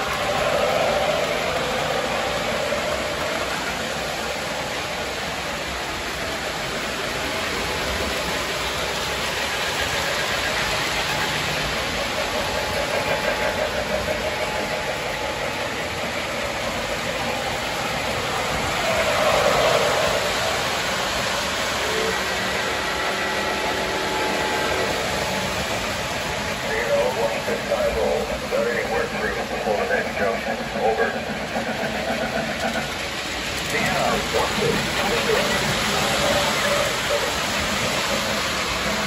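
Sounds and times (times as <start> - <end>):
model trains running on track: 0.0 - 39.0.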